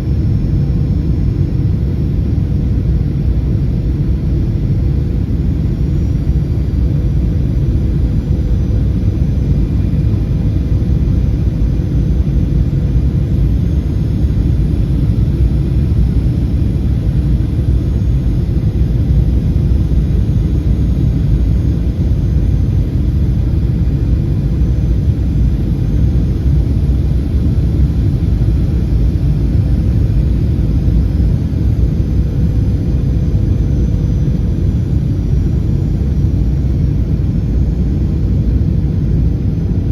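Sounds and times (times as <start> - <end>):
airplane cabin engine rumble: 0.0 - 39.9
faint steady hum: 0.0 - 39.9.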